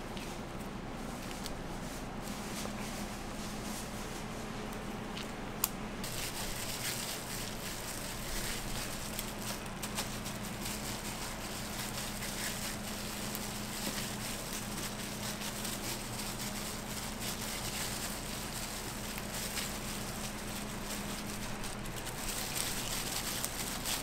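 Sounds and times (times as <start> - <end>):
constant low hum: 0.0 - 24.0.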